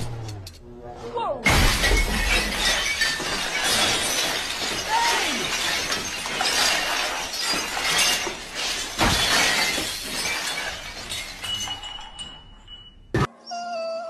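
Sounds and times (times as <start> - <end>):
glassware crashing and shattering: 1.4 - 13.3.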